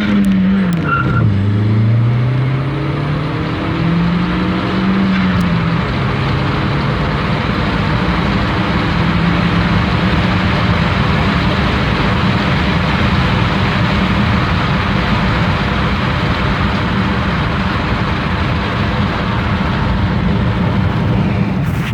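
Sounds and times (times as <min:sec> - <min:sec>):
car engine running: 0:00.0 - 0:21.9
road noise: 0:00.0 - 0:21.9
wind noise: 0:02.7 - 0:21.9.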